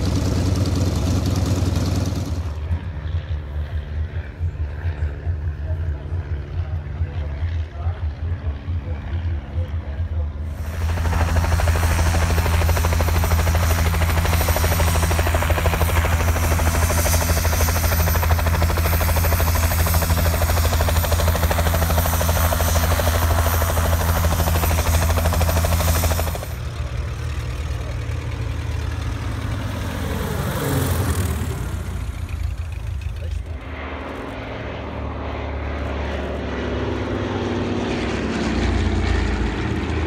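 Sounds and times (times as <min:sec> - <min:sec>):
biplane engine passing overhead: 0:00.0 - 0:40.0
propeller aeroplane engine drone: 0:00.0 - 0:40.0.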